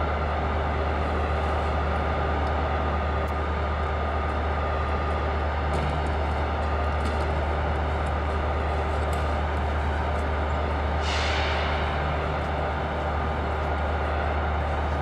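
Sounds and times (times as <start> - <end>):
low hum and rumble of platform: 0.0 - 15.0.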